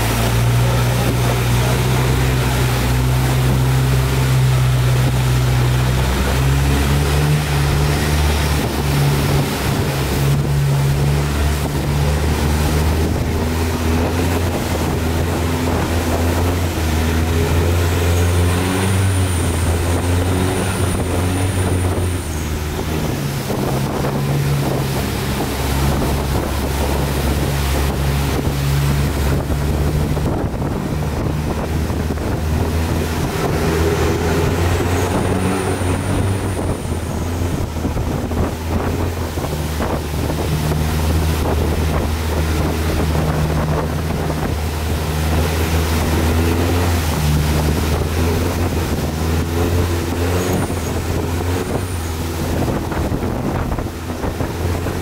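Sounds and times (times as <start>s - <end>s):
motorboat engine running: 0.0s - 55.0s
water rushing past: 0.0s - 55.0s
wind buffeting microphone: 0.0s - 55.0s.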